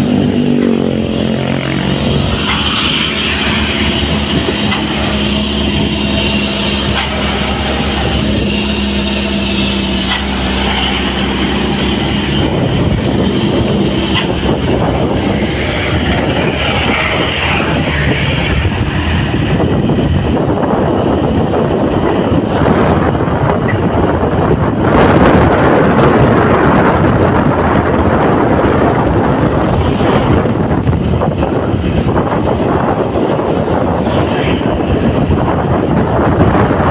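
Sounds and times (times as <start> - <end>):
road noise: 0.0 - 36.9
wind rushing over microphone: 0.0 - 36.9.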